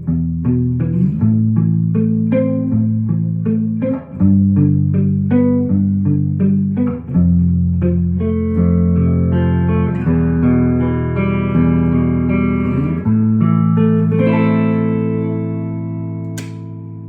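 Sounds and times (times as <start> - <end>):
electric guitar chords ringing: 0.0 - 17.0.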